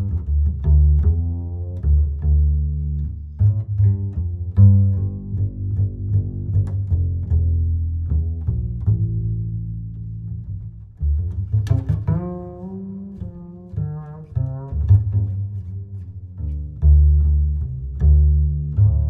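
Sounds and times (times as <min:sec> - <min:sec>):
plucked bass line: 0:00.0 - 0:19.0.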